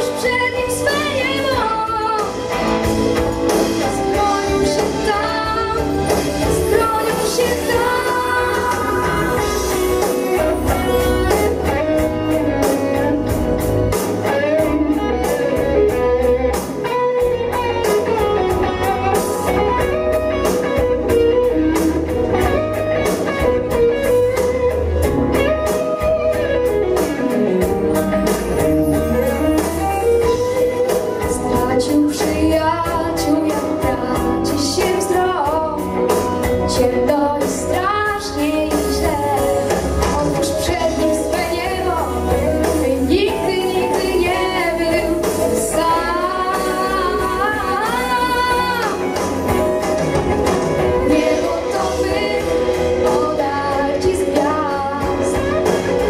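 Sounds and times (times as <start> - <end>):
pop backing track with guitar: 0.0 - 56.0.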